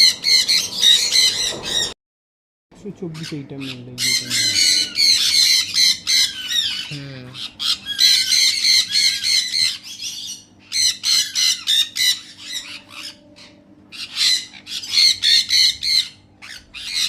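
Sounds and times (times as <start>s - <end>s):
parrots squawking: 0.0s - 2.0s, 3.1s - 17.0s.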